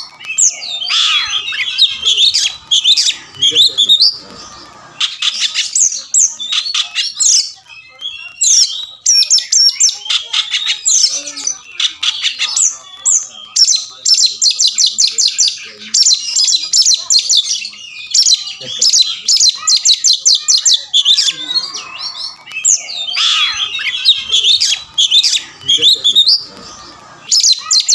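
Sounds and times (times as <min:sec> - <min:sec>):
bird singing: 0:00.0 - 0:27.9.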